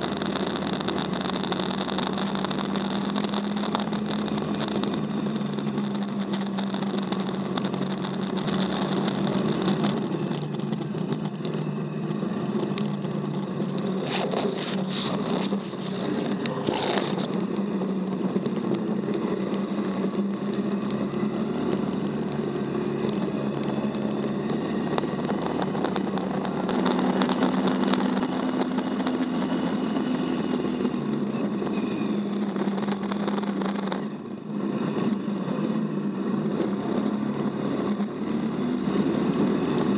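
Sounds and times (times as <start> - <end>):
buggy engine droning: 0.0 - 39.9
buggy rattling over dirt: 0.0 - 39.9.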